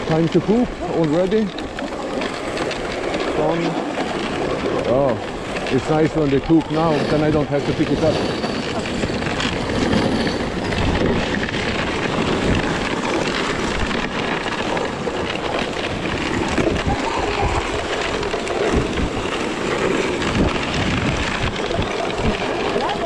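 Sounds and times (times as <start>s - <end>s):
sled runners hissing on snow: 0.0s - 23.0s
wind buffeting microphone: 0.0s - 23.0s.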